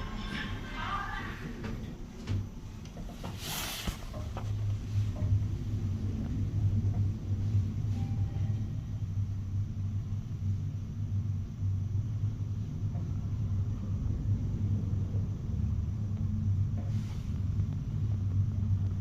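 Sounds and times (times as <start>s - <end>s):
elevator rumbling: 0.0s - 19.0s.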